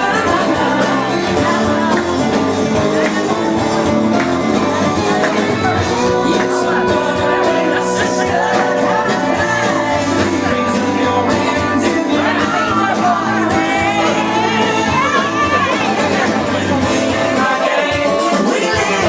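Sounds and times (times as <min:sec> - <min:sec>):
lead singer singing: 0:00.0 - 0:19.0
live band playing: 0:00.0 - 0:19.0.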